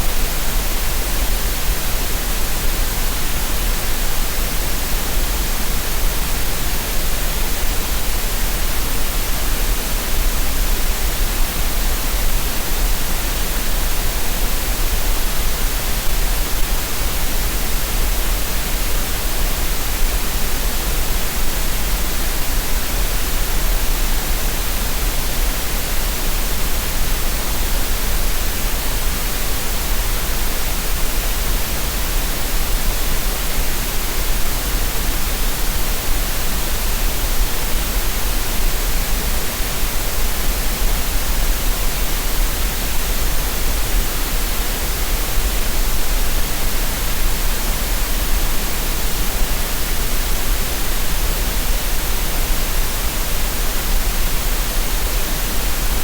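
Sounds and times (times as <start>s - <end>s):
steady green noise hiss: 0.0s - 56.0s.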